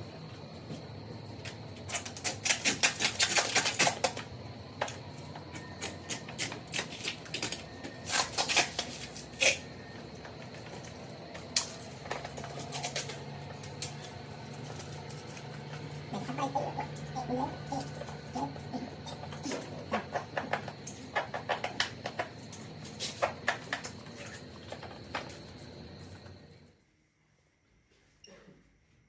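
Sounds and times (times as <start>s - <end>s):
faint low hum: 3.8s - 29.0s.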